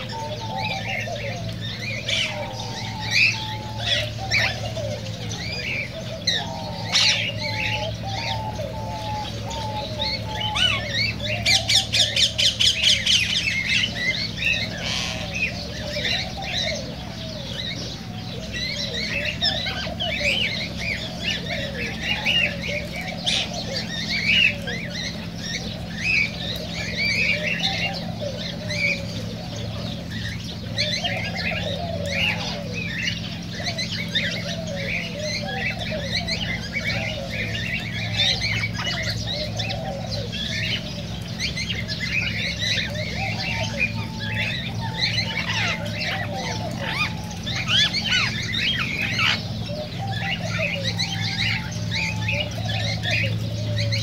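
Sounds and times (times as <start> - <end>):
birds chirping and squawking: 0.0 - 54.0
low wavering bird calls: 0.0 - 54.0
steady low hum: 0.0 - 54.0.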